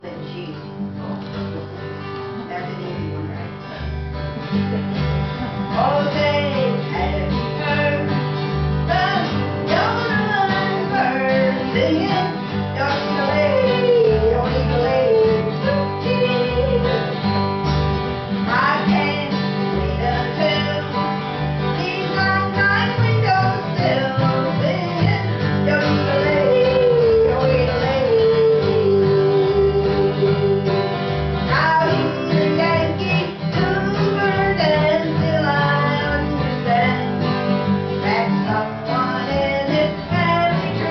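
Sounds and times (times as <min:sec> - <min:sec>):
acoustic guitar strumming: 0:00.0 - 0:40.9
sliding lead melody: 0:00.7 - 0:40.9.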